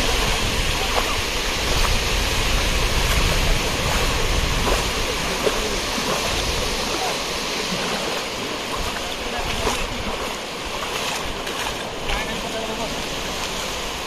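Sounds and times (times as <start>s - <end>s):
sea surf rushing: 0.0s - 14.0s
wind rumble on microphone: 0.0s - 14.0s.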